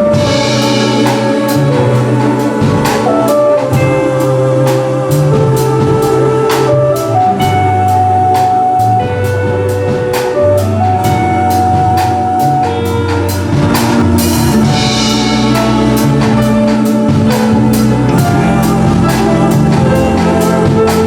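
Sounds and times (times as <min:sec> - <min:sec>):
bass line: 0:00.0 - 0:21.0
drums keeping a beat: 0:00.0 - 0:21.0
melody notes: 0:00.0 - 0:21.0.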